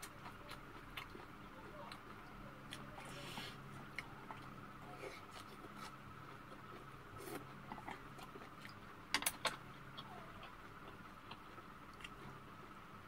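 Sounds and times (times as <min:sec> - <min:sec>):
faint chewing: 0:00.0 - 0:12.8
faint steady hum: 0:00.0 - 0:13.0.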